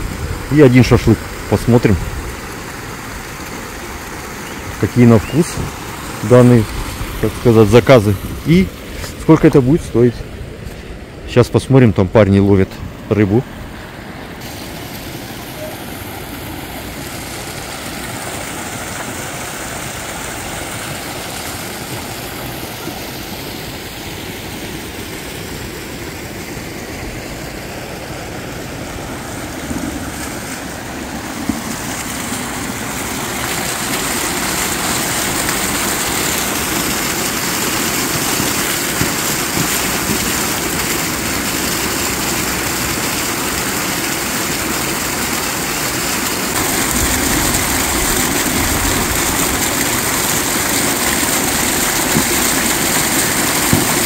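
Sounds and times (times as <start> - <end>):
water jet splashing into pond: 0.0 - 54.0.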